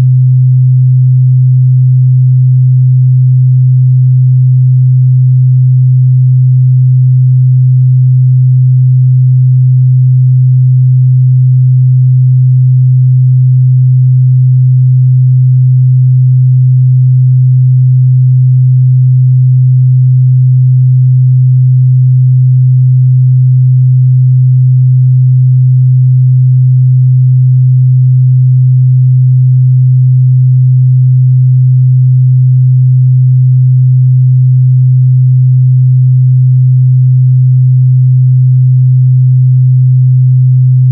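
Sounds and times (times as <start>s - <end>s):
pure sine test tone: 0.0s - 40.9s.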